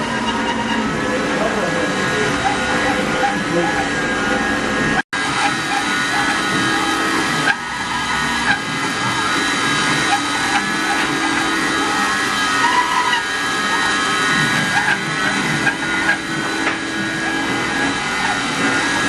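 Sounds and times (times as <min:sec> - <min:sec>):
cutter milling: 0:00.0 - 0:19.0
router spindle whine: 0:00.0 - 0:19.0.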